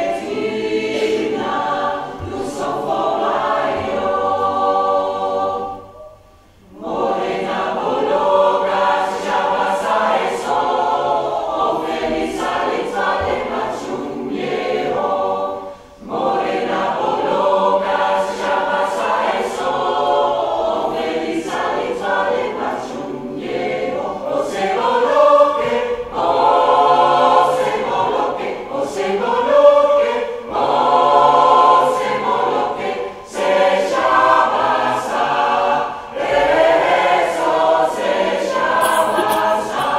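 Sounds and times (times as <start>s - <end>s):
mixed choir singing: 0.0s - 39.9s.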